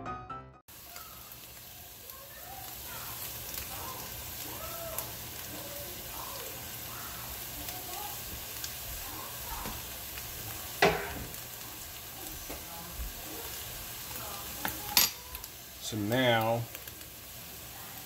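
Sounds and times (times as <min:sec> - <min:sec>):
potatoes and onion sizzling in oil: 0:00.7 - 0:18.0.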